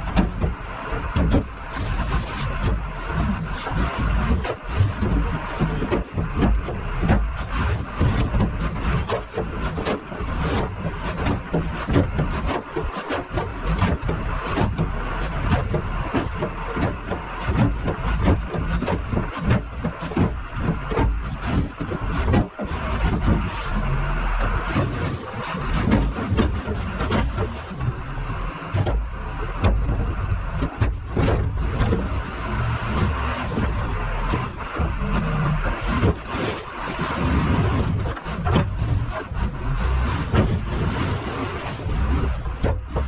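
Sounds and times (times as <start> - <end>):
knocks and rattles: 0.0 - 43.0
loader engine running: 0.0 - 43.0.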